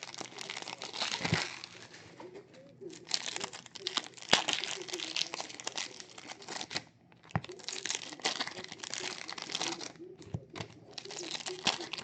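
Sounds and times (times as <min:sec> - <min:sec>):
card pack wrappers crinkling and tearing: 0:00.0 - 0:02.2, 0:02.8 - 0:12.0.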